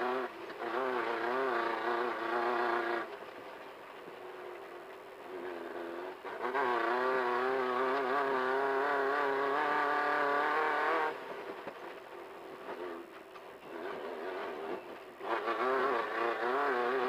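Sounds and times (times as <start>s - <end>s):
race car engine revving: 0.0s - 3.2s, 5.2s - 17.0s.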